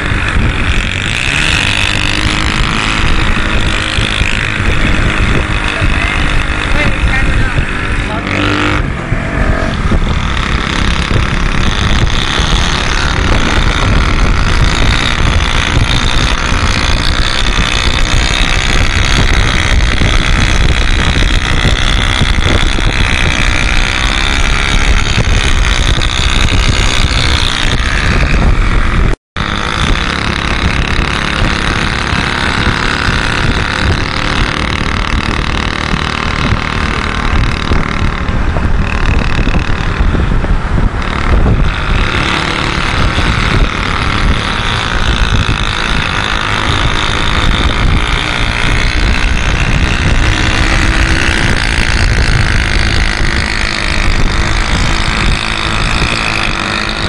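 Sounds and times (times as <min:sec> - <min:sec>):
small motorcycle engines running: 0:00.0 - 0:57.0
wind rumble on microphone: 0:00.0 - 0:57.0.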